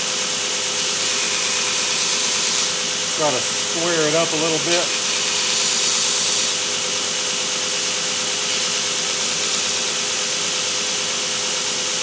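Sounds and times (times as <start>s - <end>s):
belt grinder grinding hiss: 0.6s - 11.5s
motor hum: 0.8s - 11.4s.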